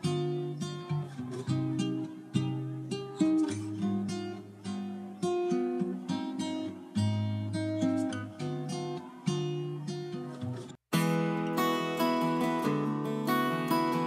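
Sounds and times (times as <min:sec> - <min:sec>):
acoustic guitar plucking: 0:00.0 - 0:14.0.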